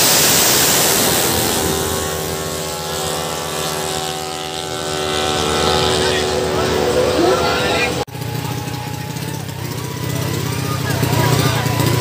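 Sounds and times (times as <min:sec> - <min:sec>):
scooter engines running hard: 0:00.0 - 0:12.0.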